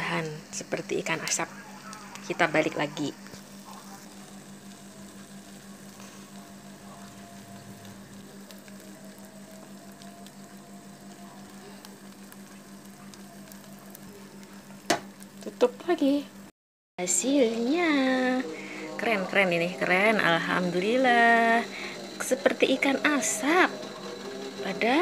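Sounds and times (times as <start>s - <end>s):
stovetop smoker sizzling and crackling: 0.0s - 25.0s.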